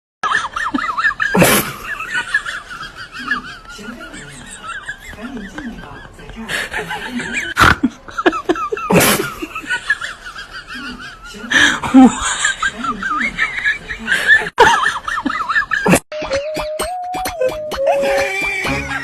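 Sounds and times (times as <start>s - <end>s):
people laughing and squealing: 0.2s - 19.0s.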